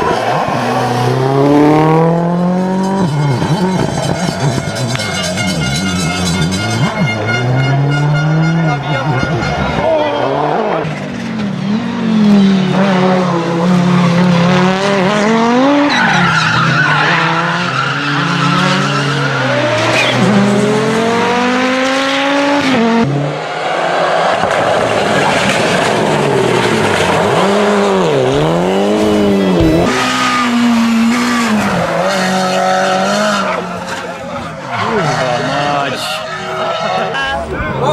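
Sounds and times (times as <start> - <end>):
rally car engine at full throttle: 0.0 - 37.9.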